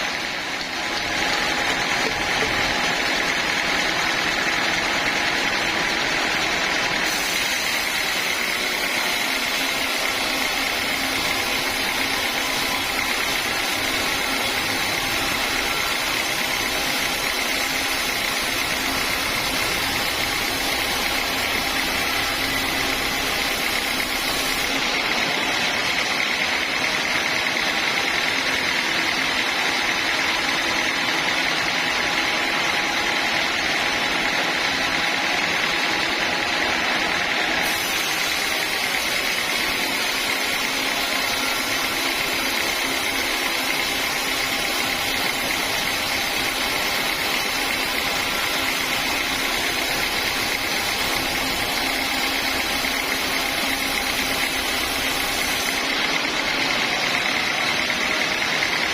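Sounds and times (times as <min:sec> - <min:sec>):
band saw machinery running: 0:00.0 - 0:58.9
high saw whine: 0:00.0 - 0:58.9.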